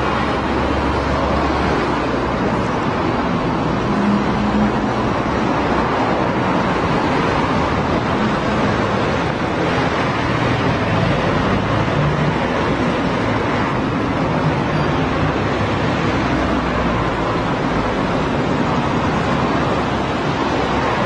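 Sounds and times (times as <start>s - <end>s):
passing cars: 0.0s - 21.0s.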